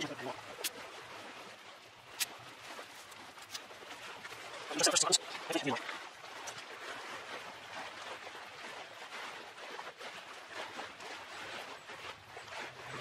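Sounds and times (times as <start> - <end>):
small waves washing onto beach: 0.0 - 13.0.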